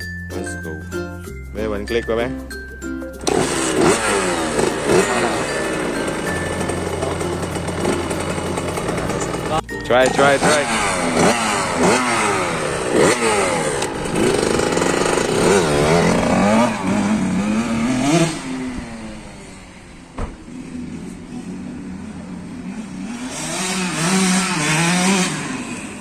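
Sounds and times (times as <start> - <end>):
two-stroke engine revving: 3.2 - 26.0.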